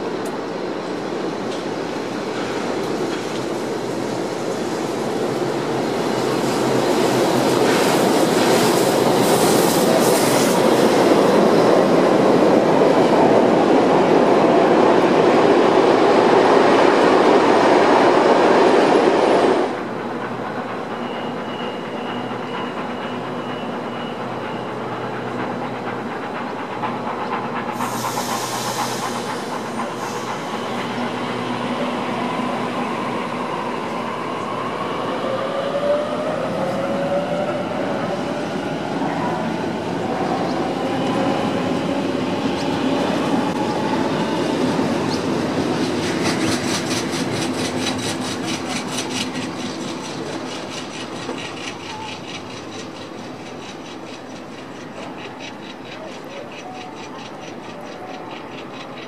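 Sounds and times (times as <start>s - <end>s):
rail yard background: 0.0s - 59.0s
train wheels clattering on rails: 0.1s - 59.0s.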